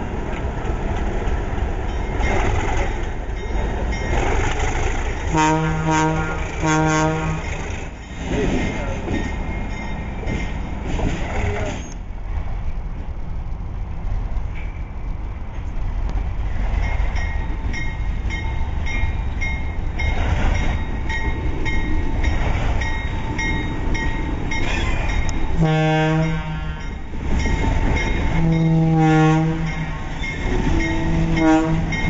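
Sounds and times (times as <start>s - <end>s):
diesel locomotive rumbling: 0.0s - 32.0s.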